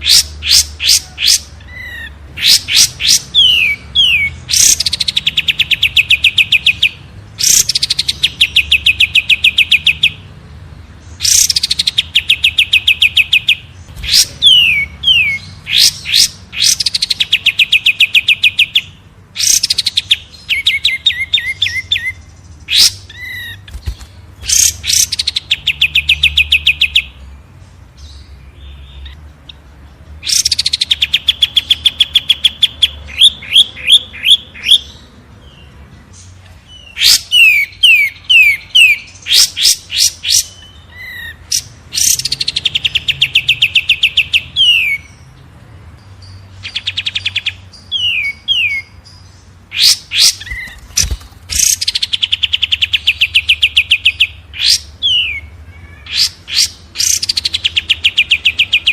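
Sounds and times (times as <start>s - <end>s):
songbird singing trills: 0.0s - 58.9s.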